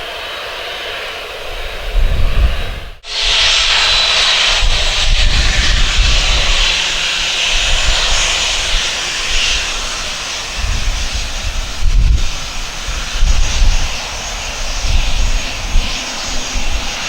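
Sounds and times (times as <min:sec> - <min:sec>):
jet engines roaring: 0:00.0 - 0:17.0
low rumble: 0:01.4 - 0:17.0.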